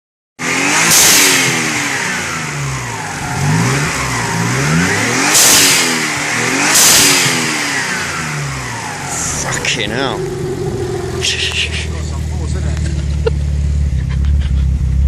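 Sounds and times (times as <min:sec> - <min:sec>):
car engine revving: 0:00.4 - 0:15.0.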